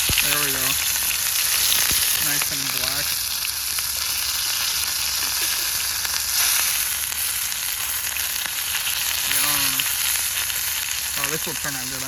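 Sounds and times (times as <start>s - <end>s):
steak sizzling on stove: 0.0s - 12.0s.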